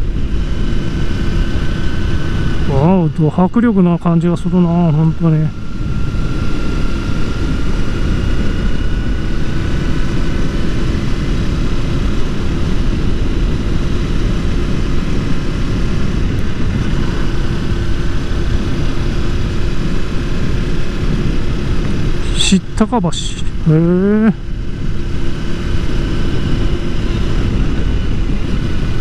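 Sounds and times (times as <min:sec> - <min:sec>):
faint steady whine: 0:00.0 - 0:29.0
heavy wind noise: 0:00.0 - 0:29.0
motorcycle engine drone: 0:00.0 - 0:29.0.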